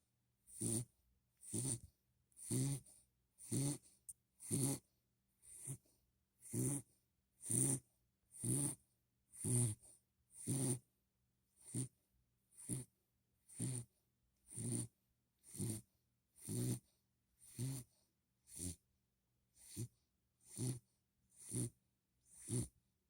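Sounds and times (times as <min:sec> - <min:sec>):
puppy snoring: 0:00.5 - 0:10.9, 0:11.5 - 0:18.9, 0:19.5 - 0:22.9.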